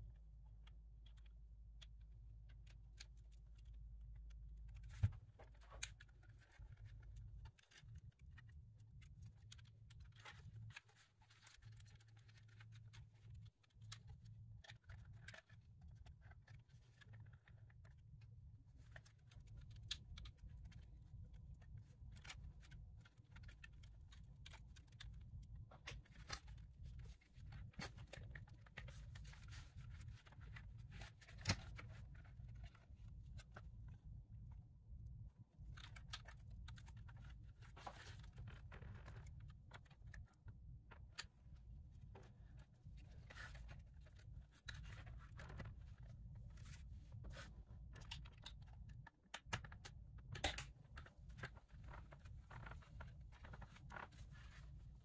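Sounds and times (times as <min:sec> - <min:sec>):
small clicks and scrapes of plastic: 0:00.0 - 0:55.0.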